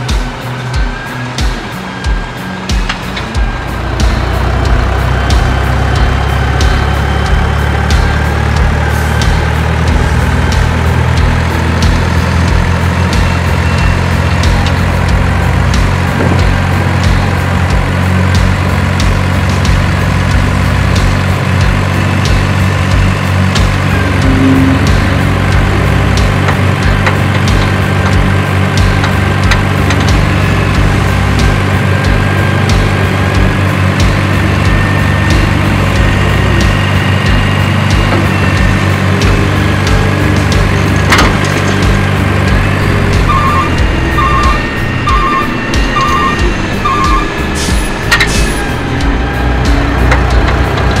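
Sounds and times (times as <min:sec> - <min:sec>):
model excavator drone: 0:00.0 - 0:51.0
truck engine idling: 0:00.0 - 0:51.0.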